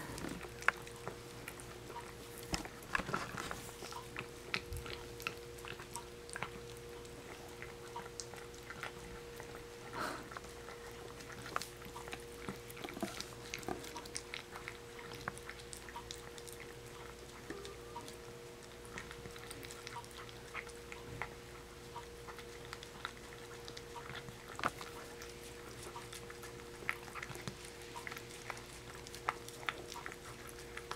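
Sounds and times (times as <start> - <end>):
dog licking and chewing: 0.0 - 30.9.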